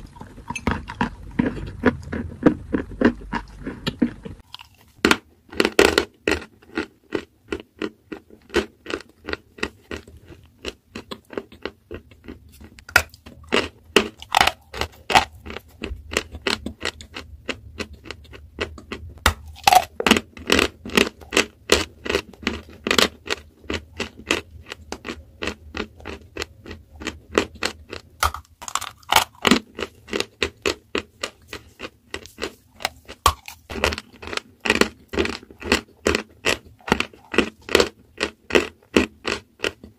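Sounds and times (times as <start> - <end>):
chewing and crunching chalk: 0.0 - 39.9.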